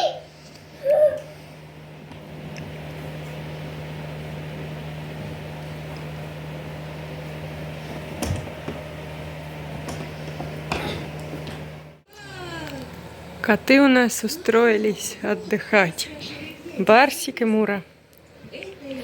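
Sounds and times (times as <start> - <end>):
fan humming: 0.0 - 19.0.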